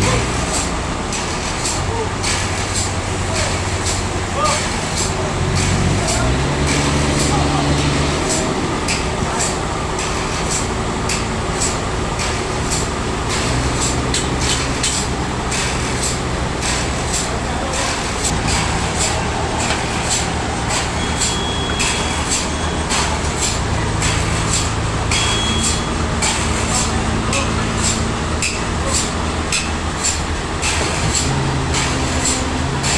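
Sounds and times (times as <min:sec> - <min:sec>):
sawmill saw cutting log: 0:00.0 - 0:32.9.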